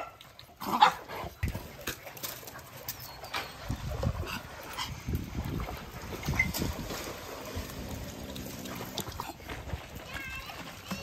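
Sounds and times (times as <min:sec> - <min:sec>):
dogs moving in water: 0:00.0 - 0:11.0
water splashing: 0:00.0 - 0:11.0.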